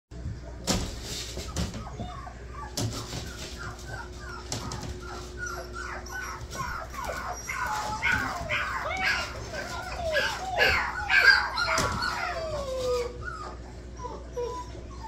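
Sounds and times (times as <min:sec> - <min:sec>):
puppies whining and yipping: 0:01.1 - 0:15.0.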